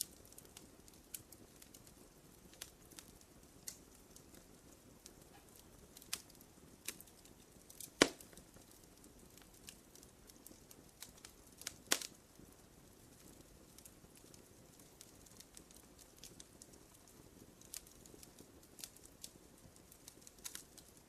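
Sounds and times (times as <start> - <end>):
campfire crackling and popping: 0.0 - 21.0
soft rustle of flame: 0.0 - 21.0.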